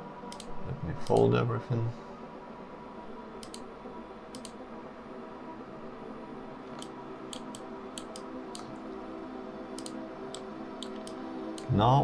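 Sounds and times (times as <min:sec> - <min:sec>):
quiet background hum: 0:00.0 - 0:12.0.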